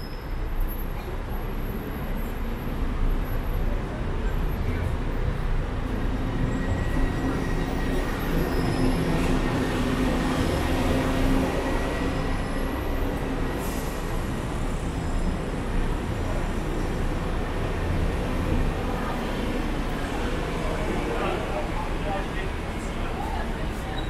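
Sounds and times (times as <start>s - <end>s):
city traffic rumble: 0.0s - 24.0s
elevated train humming: 0.0s - 24.0s.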